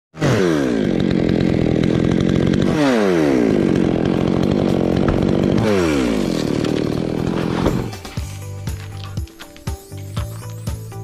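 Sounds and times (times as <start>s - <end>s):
chainsaw cutting wood: 0.2s - 11.0s.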